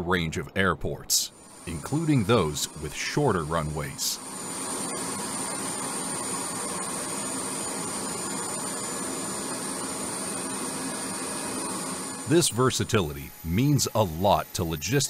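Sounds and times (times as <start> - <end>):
jet engines running: 0.9 - 15.0
high-pitched engine whine: 1.2 - 15.0.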